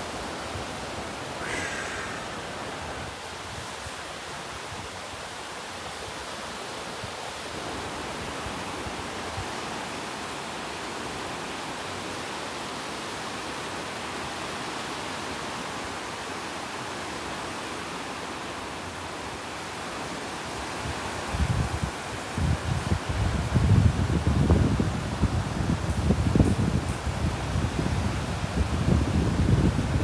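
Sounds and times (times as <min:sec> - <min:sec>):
waves washing onto beach: 0:00.0 - 0:30.0.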